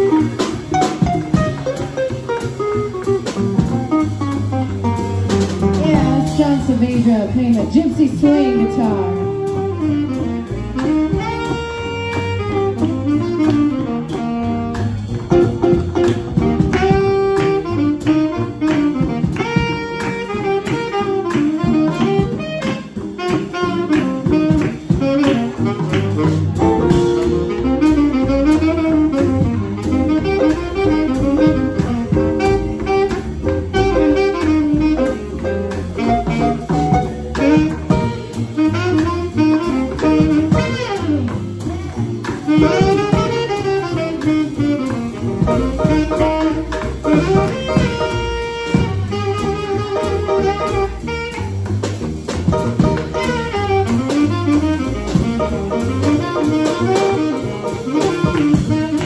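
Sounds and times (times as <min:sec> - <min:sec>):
drum kit: 0:00.0 - 0:59.0
saxophone melody: 0:00.0 - 0:59.0
upright bass: 0:00.0 - 0:59.0.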